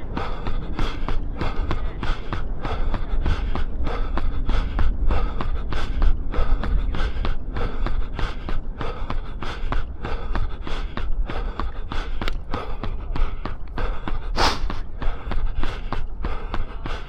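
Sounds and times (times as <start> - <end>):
hard rhythmic breathing: 0.0 - 17.0
low rumble: 0.0 - 17.0
running footsteps on path: 0.0 - 17.0.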